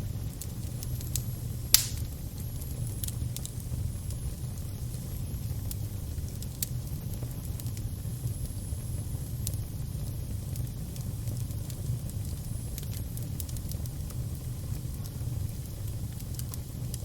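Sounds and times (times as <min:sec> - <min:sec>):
fire crackling and popping: 0:00.0 - 0:17.0
fire low rumble: 0:00.0 - 0:17.0.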